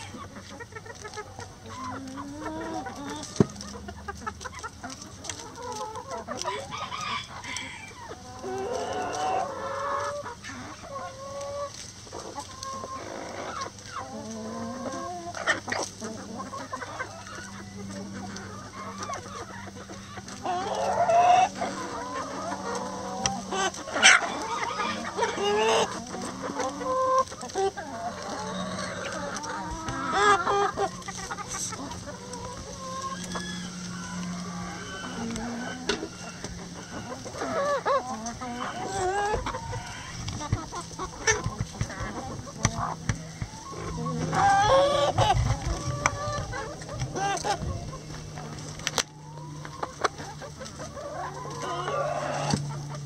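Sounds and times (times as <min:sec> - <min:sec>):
hens clucking: 0:00.0 - 0:53.0.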